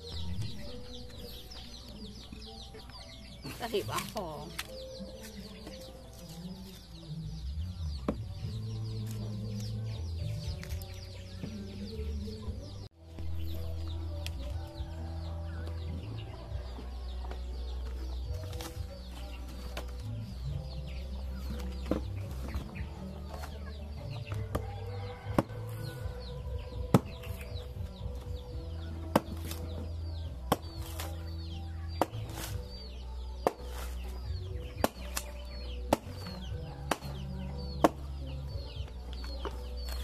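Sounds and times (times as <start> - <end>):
chickens clucking and cheeping: 0.0 - 40.0.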